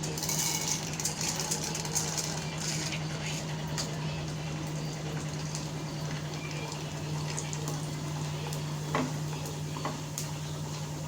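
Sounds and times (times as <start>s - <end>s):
lentils sizzling in oil: 0.0s - 11.0s.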